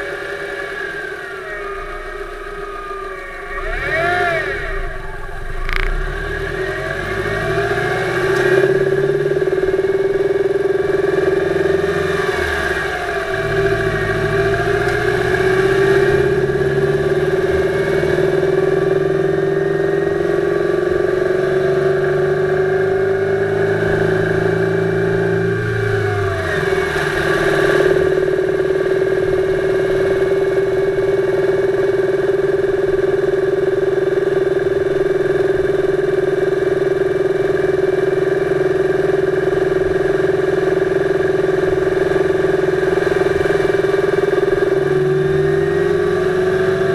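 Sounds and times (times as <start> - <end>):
car engine running: 0.0 - 46.9
engine knocking: 2.1 - 46.9.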